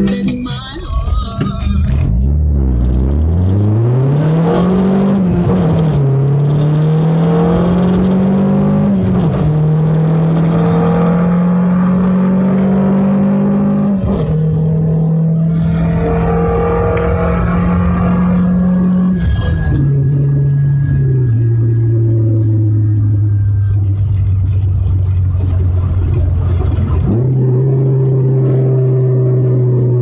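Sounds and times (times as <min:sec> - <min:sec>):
car engine accelerating hard: 0:01.9 - 0:30.0.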